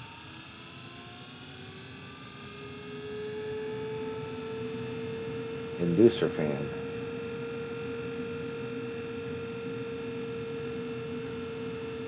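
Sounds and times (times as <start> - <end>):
furnace fan motor whine: 0.0 - 12.0.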